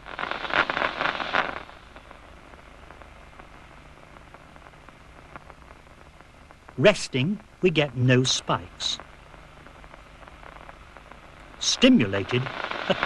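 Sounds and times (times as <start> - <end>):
crackling nerve spikes: 0.0 - 13.0
faint steady hiss: 0.0 - 13.0.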